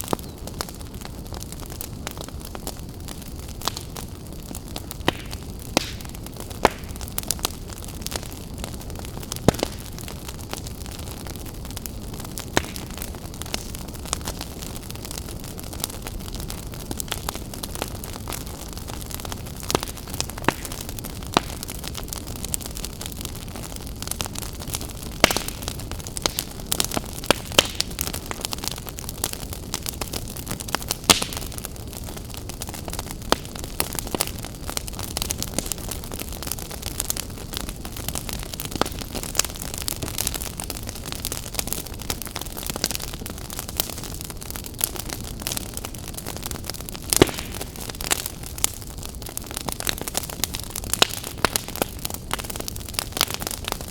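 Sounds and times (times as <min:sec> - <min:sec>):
logs crackling and popping: 0:00.0 - 0:53.9
low roar of flames: 0:00.0 - 0:53.9.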